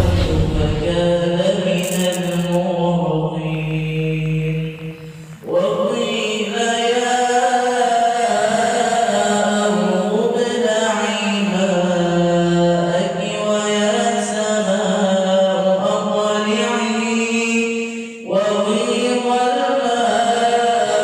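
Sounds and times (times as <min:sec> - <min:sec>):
person chanting: 0:00.0 - 0:21.0.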